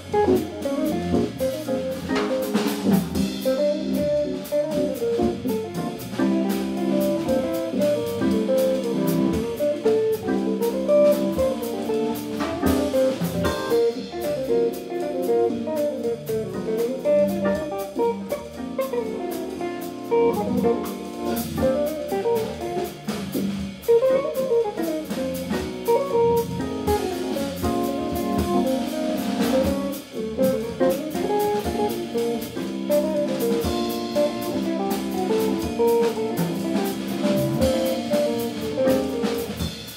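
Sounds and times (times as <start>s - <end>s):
electric guitar lines: 0.0s - 23.3s, 23.9s - 39.4s
drum kit: 0.0s - 39.9s.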